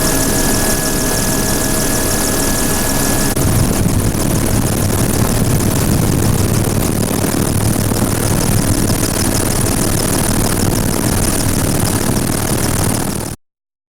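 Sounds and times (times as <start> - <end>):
turbine whine: 0.0 - 13.0
helicopter rotor beating: 0.0 - 13.4.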